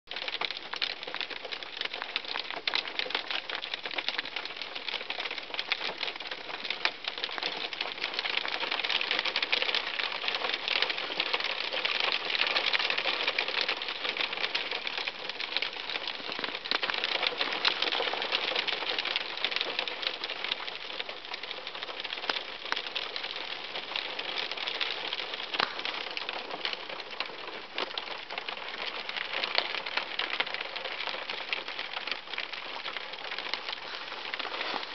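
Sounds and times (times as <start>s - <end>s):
hail hitting car roof: 0.1s - 34.9s.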